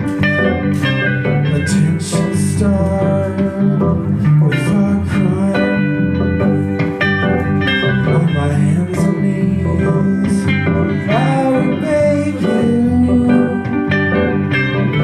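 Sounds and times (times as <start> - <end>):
bass notes: 0.0 - 15.0
guitar: 0.0 - 15.0
live band music: 0.0 - 15.0.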